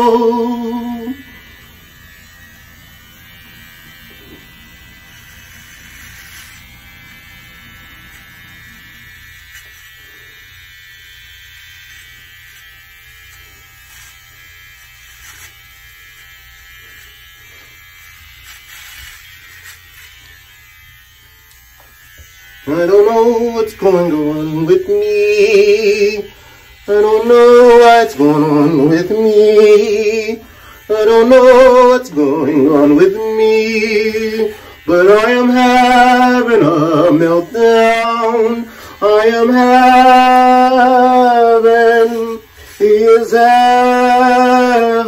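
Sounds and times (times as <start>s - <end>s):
electric shaver humming: 0.0s - 45.0s.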